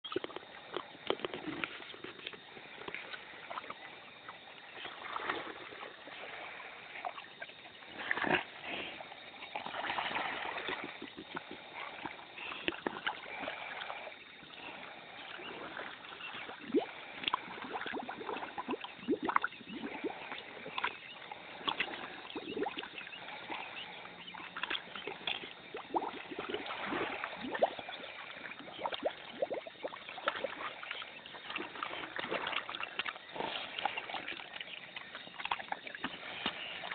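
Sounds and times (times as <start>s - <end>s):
pig sloshing and splashing: 0.0s - 36.9s.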